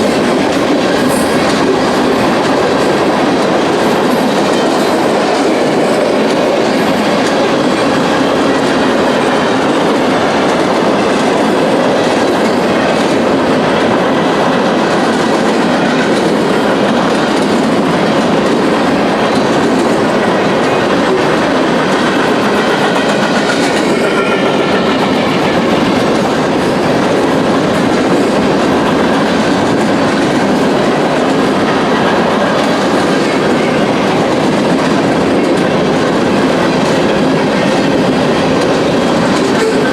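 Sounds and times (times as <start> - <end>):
freight train cars rolling past: 0.0 - 39.9.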